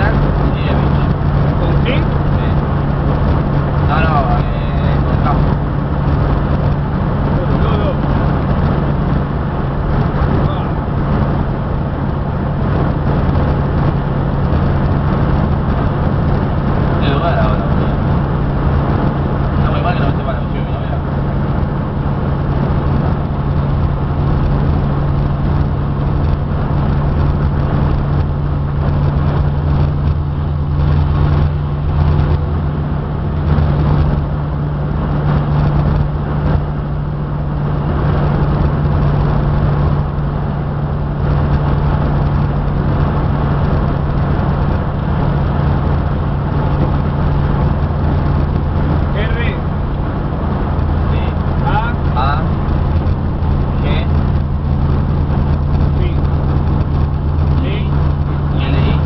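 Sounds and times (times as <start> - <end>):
rushing noise: 0.0 - 59.0
vehicle engine droning: 0.0 - 59.0.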